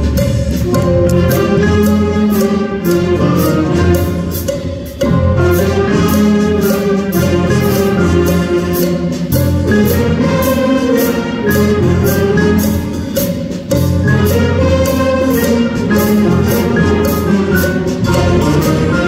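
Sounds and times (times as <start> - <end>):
school band playing: 0.0 - 19.0
steady ticking beat: 0.0 - 19.0.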